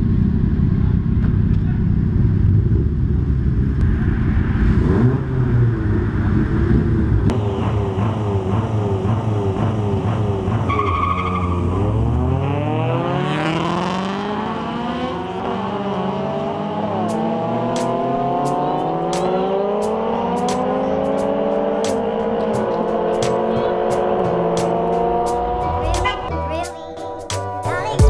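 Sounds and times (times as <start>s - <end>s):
car engines revving: 0.0s - 26.3s.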